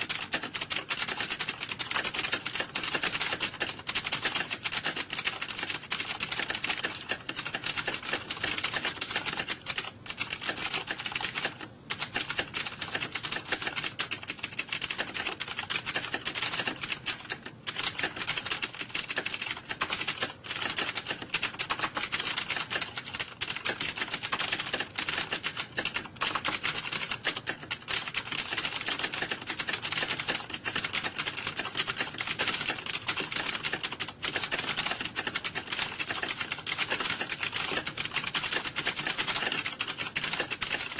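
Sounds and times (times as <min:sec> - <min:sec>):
keyboards clattering: 0:00.0 - 0:40.9.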